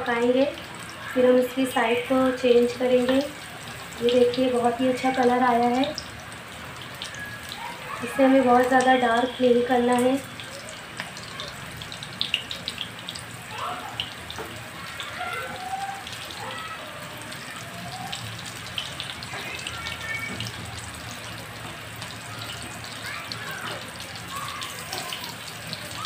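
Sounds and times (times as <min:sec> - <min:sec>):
frying in hot oil: 0:00.0 - 0:26.0.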